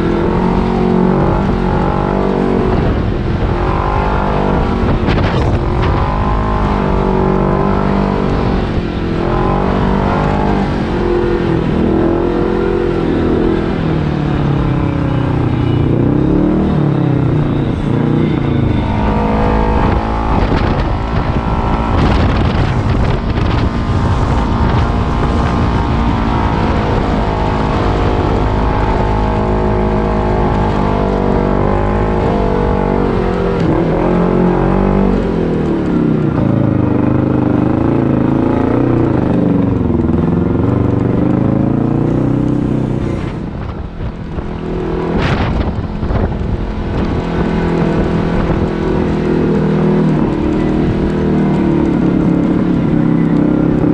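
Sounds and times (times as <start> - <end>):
utility vehicle engine revving: 0.0 - 53.9.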